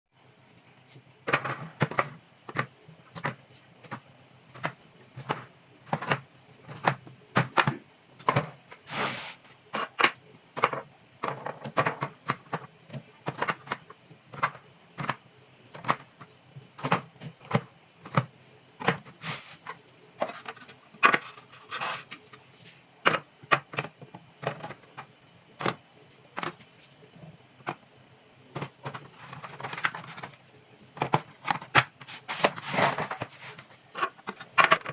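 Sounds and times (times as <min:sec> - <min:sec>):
containers knocking and clicking: 0:01.2 - 0:08.8, 0:09.7 - 0:22.4, 0:23.0 - 0:25.8, 0:26.4 - 0:26.8, 0:28.5 - 0:30.4, 0:31.0 - 0:34.9.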